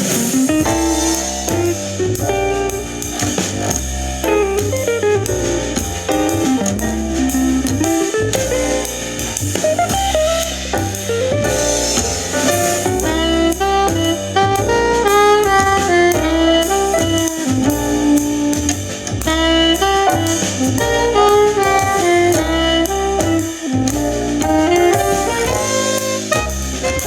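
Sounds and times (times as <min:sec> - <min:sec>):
jazz music over a speaker: 0:00.0 - 0:27.0.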